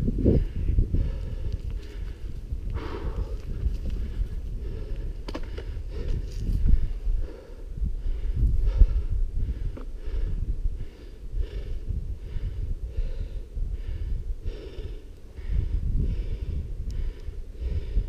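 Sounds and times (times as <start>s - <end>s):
wind on camera: 0.0s - 18.0s
person panting hard: 0.1s - 18.0s.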